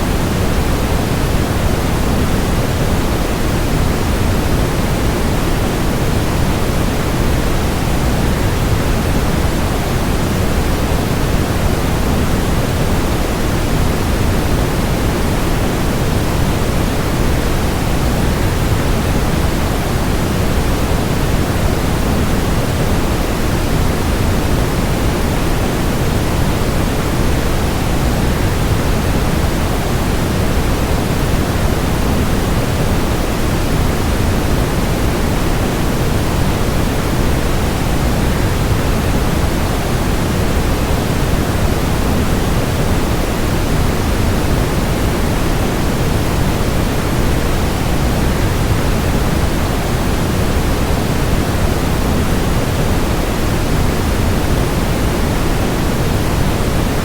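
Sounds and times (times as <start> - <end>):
white noise: 0.0 - 57.0.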